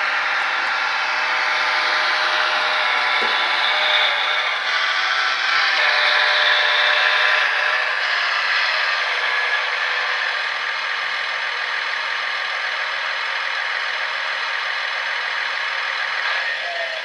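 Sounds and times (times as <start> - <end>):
model train rattling on track: 0.0 - 17.0.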